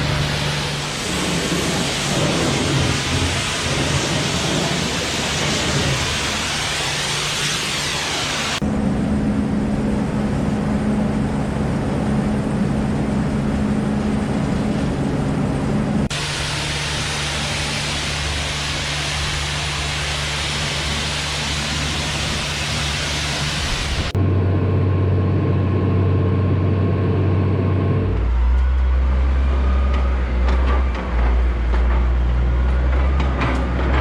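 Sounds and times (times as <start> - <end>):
combine harvester droning: 0.0 - 34.0.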